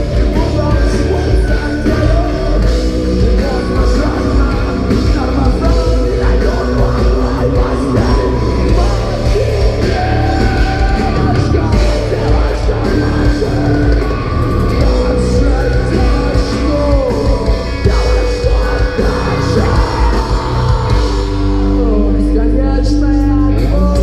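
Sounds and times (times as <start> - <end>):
heavy rock band playing: 0.0 - 24.0
singer shouting and singing: 0.0 - 24.0.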